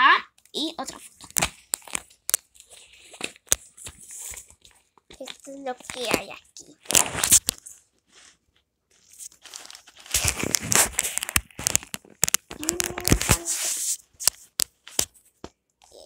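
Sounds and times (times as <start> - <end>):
plastic rustling and rubbing: 0.5 - 15.4.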